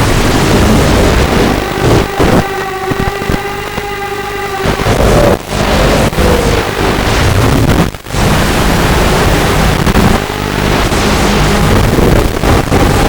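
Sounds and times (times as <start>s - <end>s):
quadcopter motors whining: 0.0s - 13.0s
wind rush on microphone: 0.0s - 13.0s.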